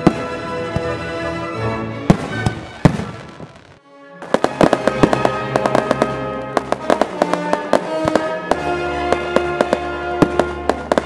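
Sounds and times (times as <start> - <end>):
fireworks bangs and crackles: 0.0 - 1.2, 2.0 - 11.0
music with held tones: 0.0 - 11.0.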